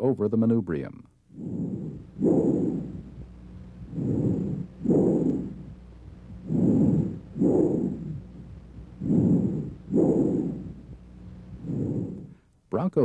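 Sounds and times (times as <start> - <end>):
breath sounds through stethoscope: 1.3 - 12.6.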